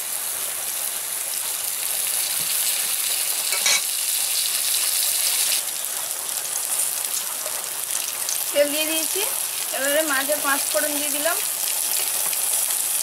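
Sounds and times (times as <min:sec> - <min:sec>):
oil sizzling in hot pan: 0:00.0 - 0:13.0.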